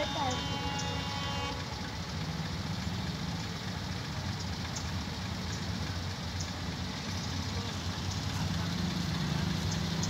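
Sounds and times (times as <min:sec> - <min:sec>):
auto-rickshaw engines idling: 0:00.0 - 0:10.0.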